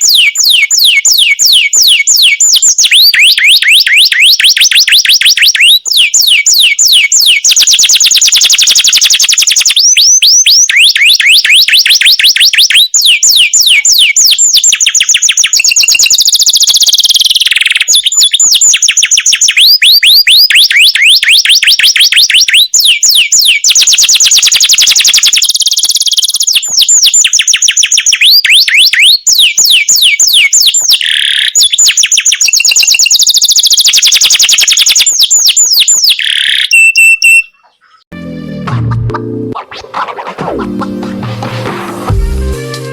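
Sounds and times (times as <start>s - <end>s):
canary singing trills: 0.0s - 38.6s.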